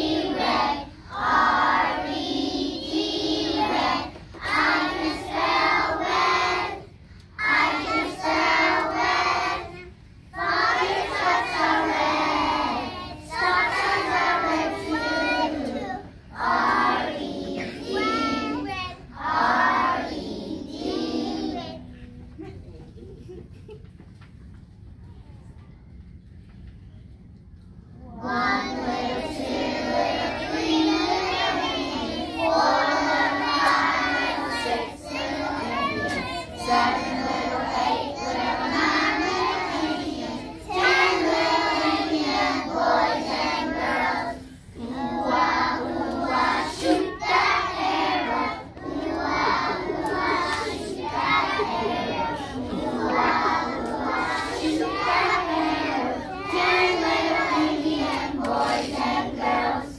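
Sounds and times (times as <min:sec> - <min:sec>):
children singing together: 0:00.0 - 0:22.6, 0:28.0 - 0:59.9.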